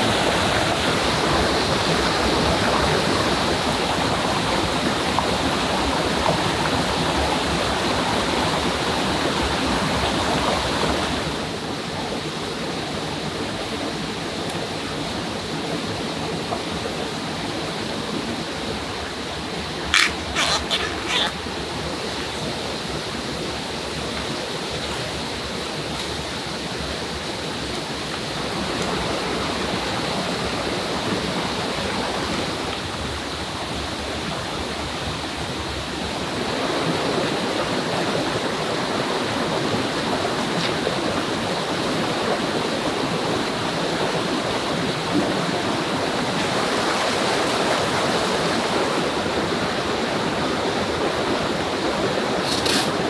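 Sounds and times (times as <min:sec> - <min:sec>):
rushing forest stream: 0:00.0 - 0:53.0.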